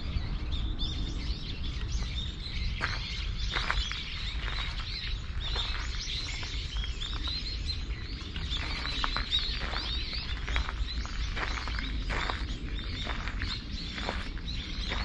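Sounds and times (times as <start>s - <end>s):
low outdoor rumble: 0.0s - 15.0s
small songbirds chirping: 0.0s - 15.0s.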